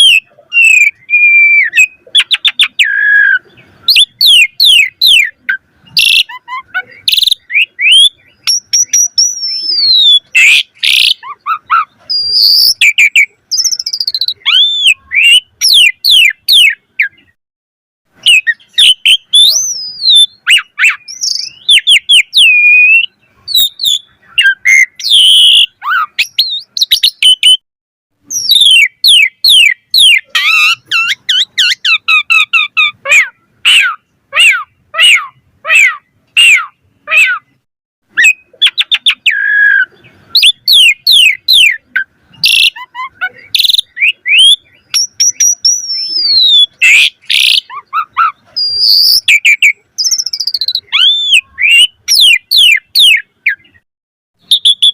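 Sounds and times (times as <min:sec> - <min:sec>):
starling singing: 0:00.0 - 0:17.4, 0:18.1 - 0:27.6, 0:28.2 - 0:53.8, 0:54.4 - 0:54.9.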